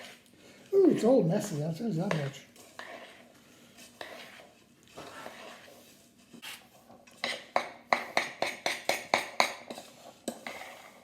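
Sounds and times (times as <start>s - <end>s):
spoon scraping in a saucepan: 0.0s - 11.0s.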